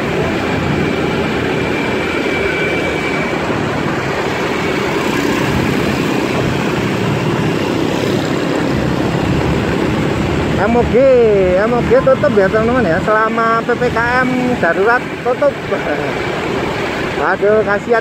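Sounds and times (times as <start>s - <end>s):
vehicle and road noise: 0.0s - 18.0s.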